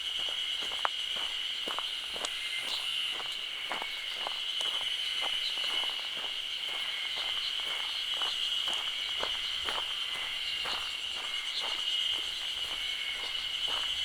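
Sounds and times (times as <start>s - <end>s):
footsteps on forest trail: 0.0s - 14.0s
high-pitched insect drone: 0.0s - 14.0s.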